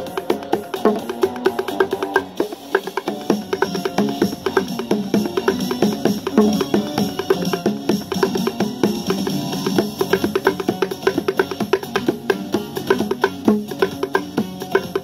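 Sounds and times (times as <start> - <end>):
bongos played by hand: 0.0 - 15.0.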